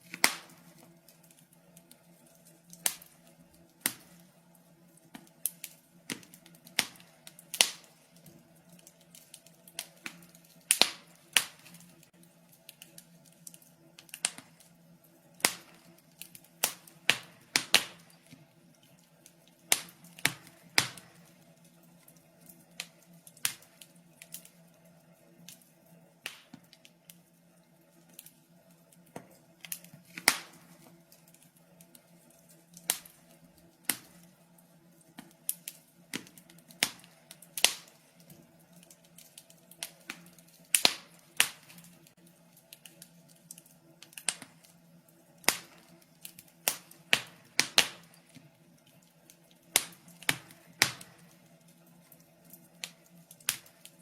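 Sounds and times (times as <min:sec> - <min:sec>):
faint steady hum: 0:00.0 - 0:54.0
wood fire crackling: 0:00.0 - 0:54.0.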